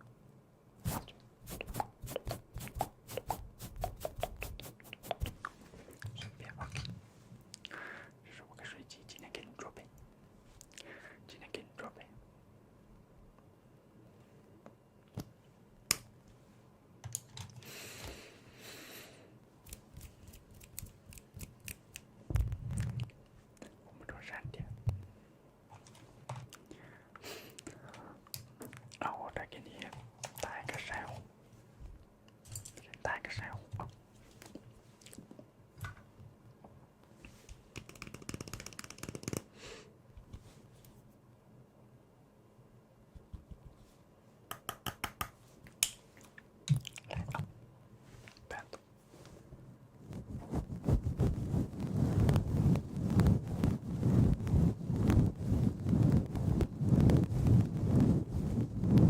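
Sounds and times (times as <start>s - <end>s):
soft hiss: 0.0s - 41.8s, 45.3s - 59.0s.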